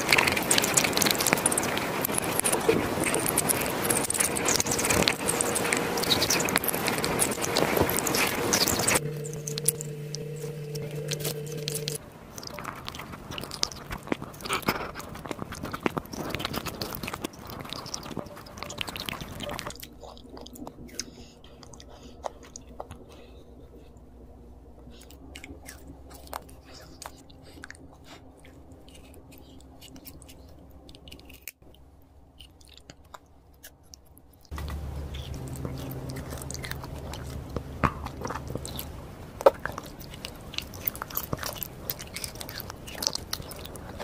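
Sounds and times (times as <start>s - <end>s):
crisp crunching bites: 0.0s - 22.9s, 28.4s - 44.0s
steady hum: 0.0s - 32.3s, 34.5s - 44.0s
wet slippery chewing: 0.0s - 44.0s.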